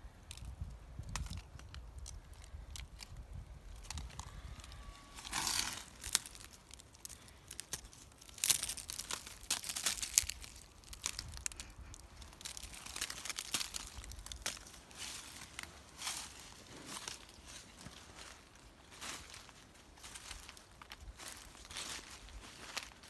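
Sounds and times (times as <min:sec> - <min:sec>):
footsteps crunching dry leaves: 0:03.6 - 0:23.0.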